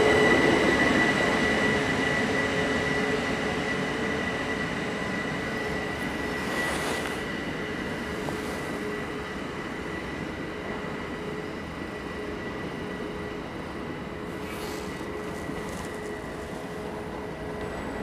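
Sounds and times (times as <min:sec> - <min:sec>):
high whine: 0:00.0 - 0:18.0
train rolling noise: 0:00.0 - 0:18.0.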